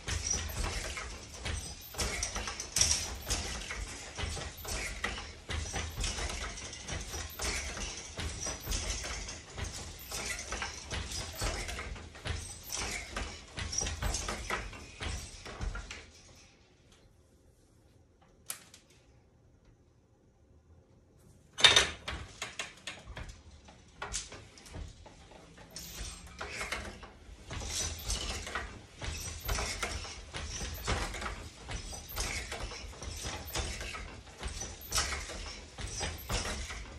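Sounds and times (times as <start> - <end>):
wooden loom knocking and clattering: 0.0 - 16.1, 21.6 - 36.9.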